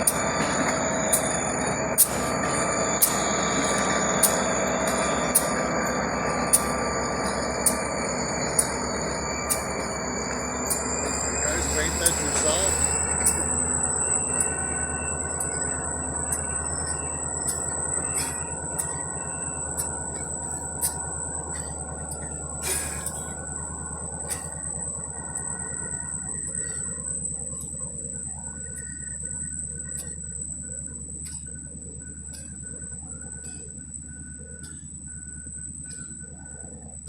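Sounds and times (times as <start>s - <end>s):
high-pitched whine: 0.0s - 37.0s
sharp clicks of train wheels: 0.0s - 37.0s
train rolling past with low rumble: 0.0s - 37.0s.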